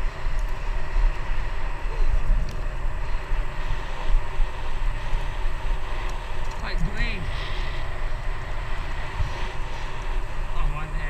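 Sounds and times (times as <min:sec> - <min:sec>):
bicycle tyres rolling on asphalt: 0:00.0 - 0:11.0
wind buffeting microphone: 0:00.0 - 0:11.0.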